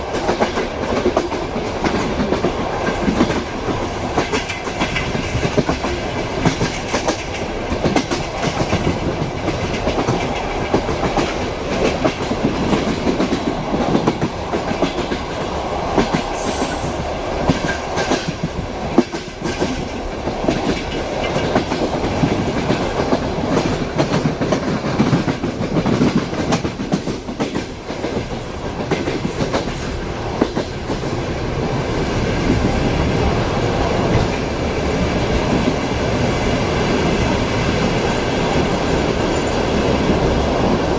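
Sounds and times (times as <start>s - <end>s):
train rumble: 0.0s - 40.9s
wheels clickety-clack over rail joints: 0.0s - 40.9s.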